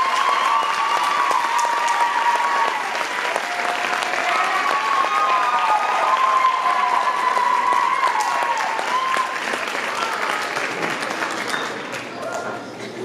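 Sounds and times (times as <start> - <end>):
audience clapping: 0.0 - 12.6
people cheering: 0.0 - 12.8.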